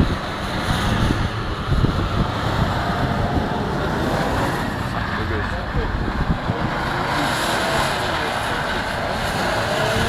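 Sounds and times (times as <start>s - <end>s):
car engine running hard: 0.0s - 10.0s
wheels spinning in snow: 0.0s - 10.0s.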